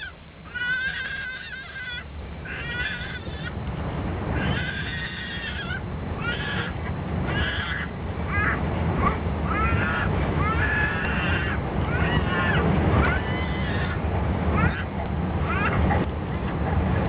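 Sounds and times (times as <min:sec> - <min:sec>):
infant crying: 0:00.0 - 0:03.5, 0:04.4 - 0:14.0, 0:14.6 - 0:15.9
airplane cabin rumble: 0:00.0 - 0:17.0.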